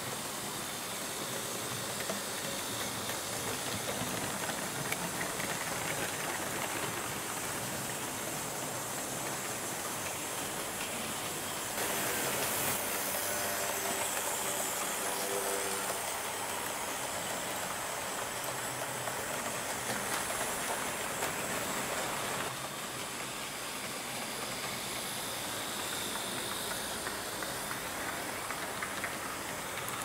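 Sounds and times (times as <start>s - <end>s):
model train wheels hissing on rails: 0.0s - 30.0s
locomotive motors: 0.6s - 30.0s.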